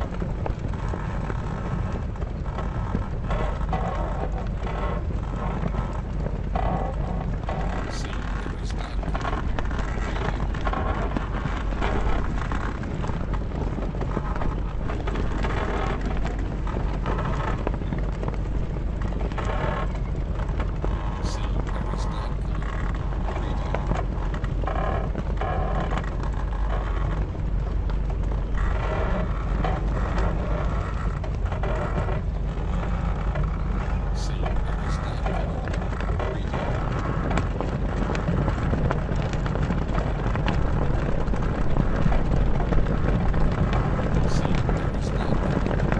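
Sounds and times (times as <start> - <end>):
mast creaking: 0.0 - 45.9
sails flapping in wind: 0.0 - 45.9
steady low rumble: 0.0 - 45.9.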